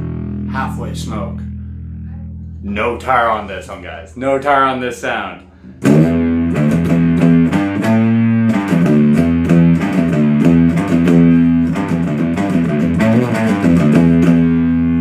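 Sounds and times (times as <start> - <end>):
distorted electric guitar riff: 0.0 - 15.0.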